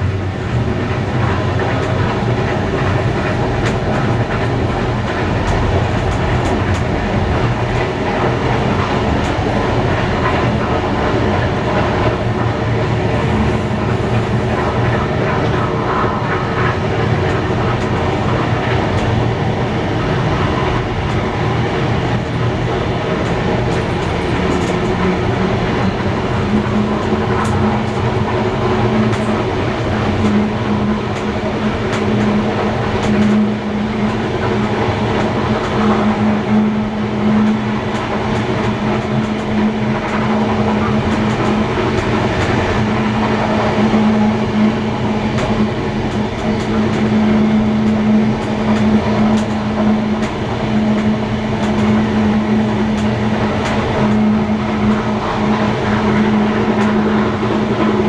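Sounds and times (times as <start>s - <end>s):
train rumble: 0.0s - 58.0s
wheels clattering over rail joints: 0.0s - 58.0s.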